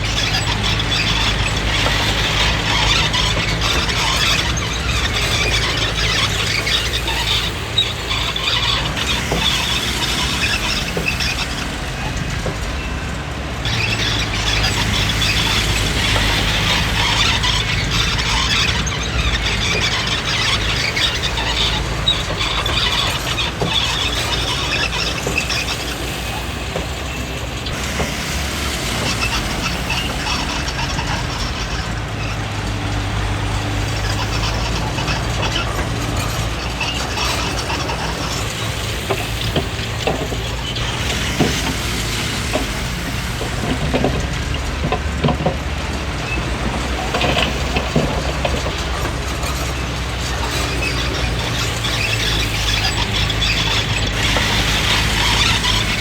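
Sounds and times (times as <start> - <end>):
bulldozer diesel engine running: 0.0 - 56.0
steel tracks squealing and clattering: 0.0 - 56.0.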